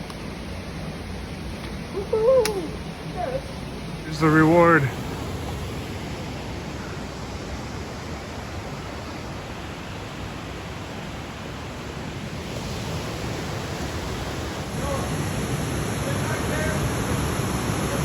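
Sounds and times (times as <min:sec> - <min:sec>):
waterfall rushing: 0:01.2 - 0:18.0.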